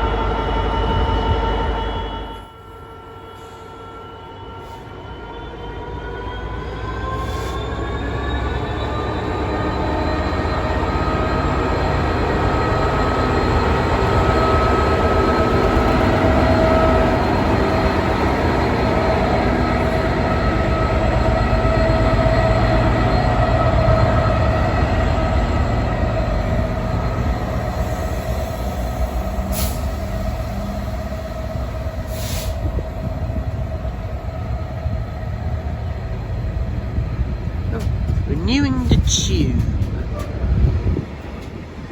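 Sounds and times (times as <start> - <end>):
diesel locomotive rumbling and whining: 0.0 - 41.9.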